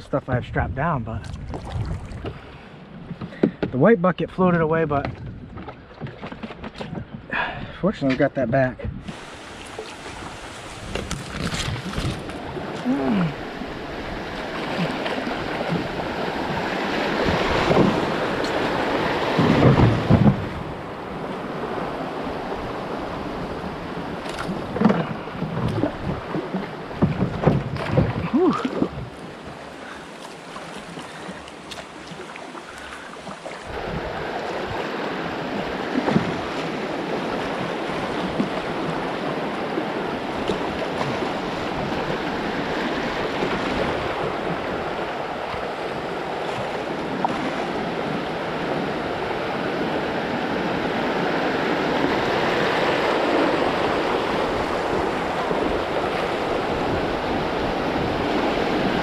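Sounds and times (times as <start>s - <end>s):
rushing river water: 1.2s - 59.0s.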